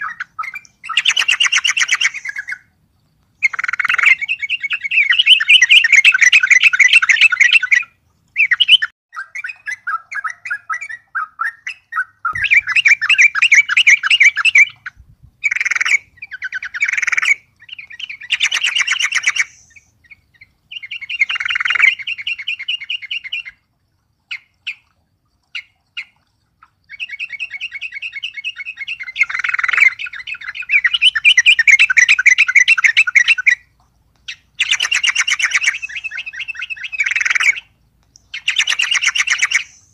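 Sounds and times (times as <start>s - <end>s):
bird singing rapid chattering phrases: 0.0s - 2.6s, 3.4s - 23.4s, 26.9s - 33.6s, 34.3s - 39.9s.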